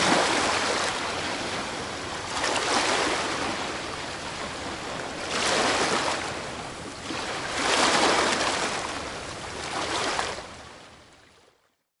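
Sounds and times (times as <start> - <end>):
ocean waves on beach: 0.0 - 11.6.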